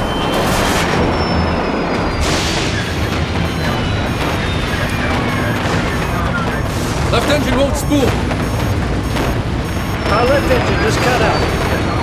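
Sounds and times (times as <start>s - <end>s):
faint whines falling in pitch: 0.0s - 12.0s
loud steady rumble: 0.0s - 12.0s
heavy bangs: 0.3s - 12.0s.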